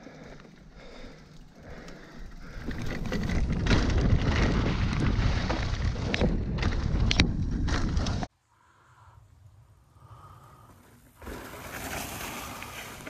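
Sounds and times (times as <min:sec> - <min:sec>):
bike rattling over bumps: 0:00.0 - 0:08.3, 0:10.7 - 0:13.0
bike tyres rolling on dirt and leaves: 0:00.0 - 0:08.3, 0:10.5 - 0:13.0.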